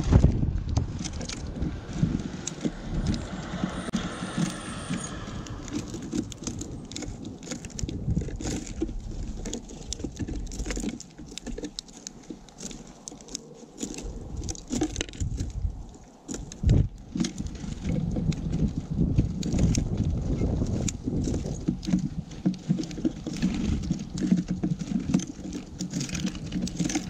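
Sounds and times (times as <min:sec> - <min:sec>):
birds hopping thumps and rustles: 0:00.0 - 0:27.0
birds pecking seeds: 0:00.0 - 0:27.0.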